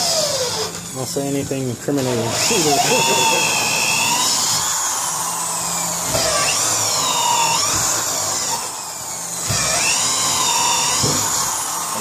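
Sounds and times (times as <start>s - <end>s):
electric drill boring wood: 0.0s - 12.0s.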